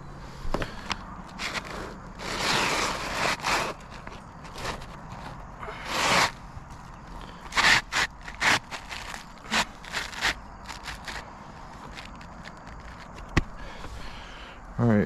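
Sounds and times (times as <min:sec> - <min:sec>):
scraping on shingle roof: 0:00.6 - 0:13.8.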